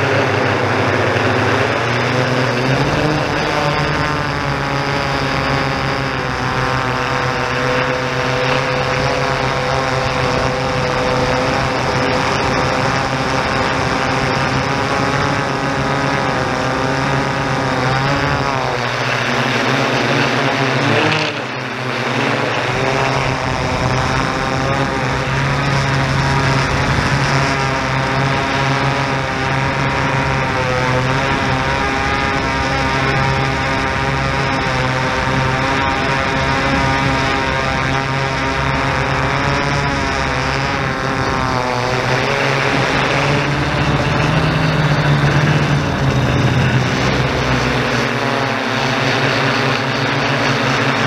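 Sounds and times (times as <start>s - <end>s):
drone propellers whining: 0.0s - 51.0s.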